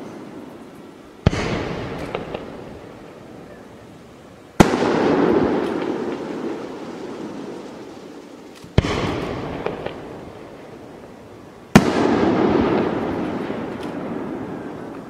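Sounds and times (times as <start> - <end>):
firework crackles: 0.0 - 15.0
firework bangs with rolling echo: 1.2 - 3.3, 4.5 - 15.0.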